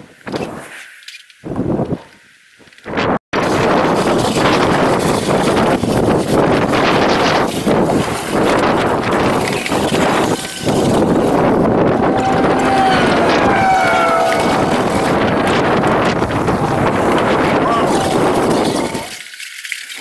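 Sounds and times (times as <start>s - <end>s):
wind buffeting microphone: 2.8s - 19.2s.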